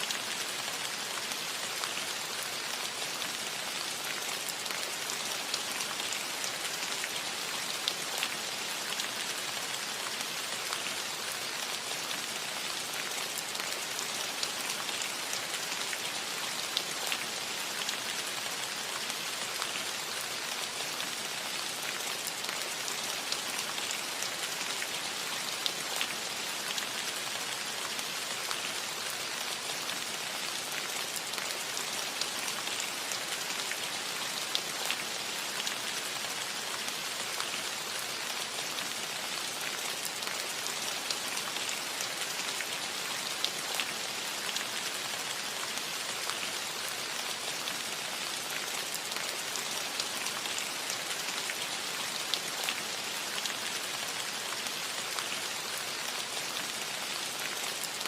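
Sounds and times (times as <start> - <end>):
light rain on a metal roof: 0.0 - 58.0.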